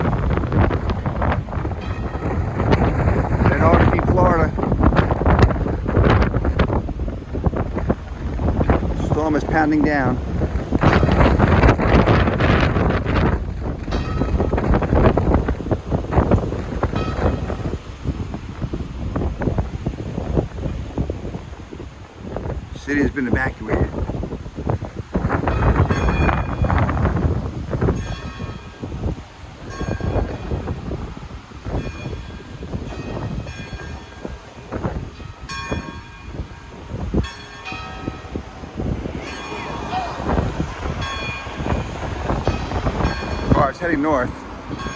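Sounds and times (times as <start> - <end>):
church bells ringing: 0.0 - 21.1, 25.2 - 44.9
wind buffeting microphone: 0.0 - 44.9.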